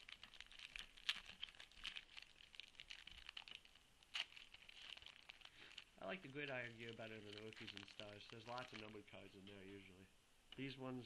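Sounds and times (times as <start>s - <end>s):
foil pack crinkling and tearing: 0.0s - 9.8s.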